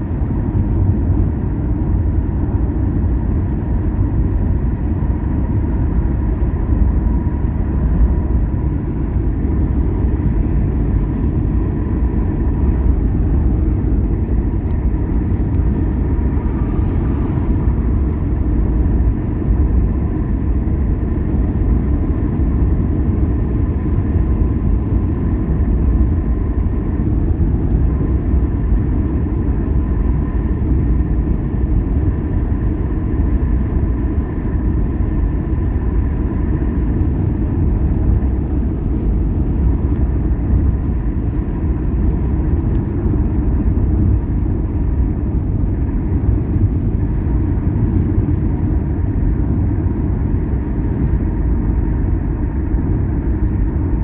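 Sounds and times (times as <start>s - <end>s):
car road and engine rumble: 0.0s - 54.0s
faint steady whine: 0.0s - 54.0s.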